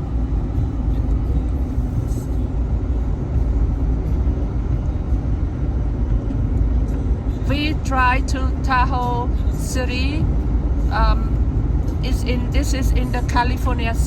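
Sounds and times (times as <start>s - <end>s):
car driving on snowy road: 0.0s - 14.0s.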